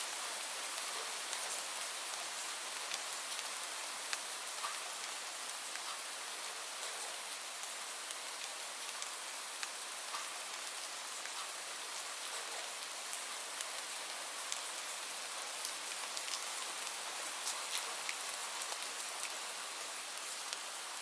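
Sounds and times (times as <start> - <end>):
hiss of falling rain: 0.0 - 21.0
raindrops ticking on a surface: 0.1 - 21.0.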